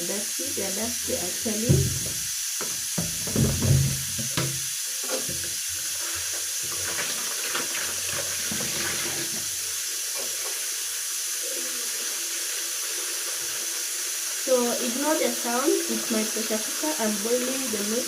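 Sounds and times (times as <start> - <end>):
pressure cooker hissing: 0.0 - 18.0.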